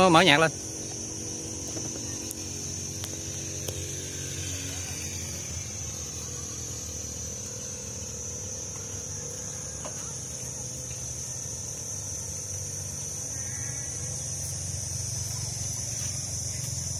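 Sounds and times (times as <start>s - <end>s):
insect chorus: 0.0s - 16.9s
low steady hum: 0.0s - 16.9s.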